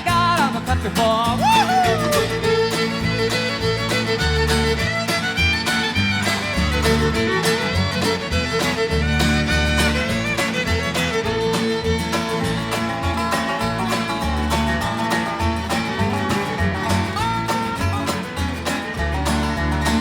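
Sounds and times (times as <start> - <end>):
upbeat bluegrass fiddle music: 0.0 - 20.0.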